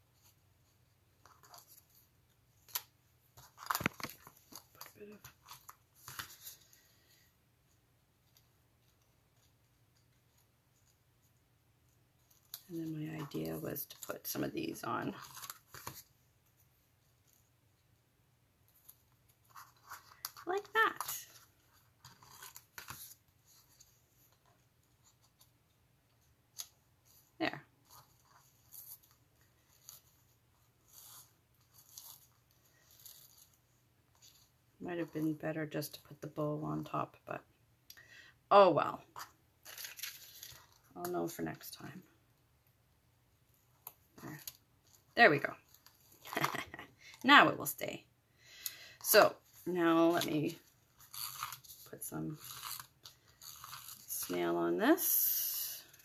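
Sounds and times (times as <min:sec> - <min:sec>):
ribbon and cardstock rustling: 0:00.0 - 0:17.6, 0:18.6 - 0:37.1, 0:39.0 - 0:42.1, 0:43.7 - 0:47.7, 0:49.0 - 0:56.0.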